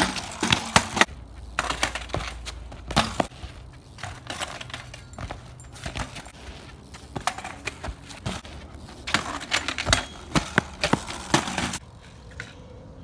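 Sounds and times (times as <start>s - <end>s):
bike crashing on concrete: 0.0s - 11.8s.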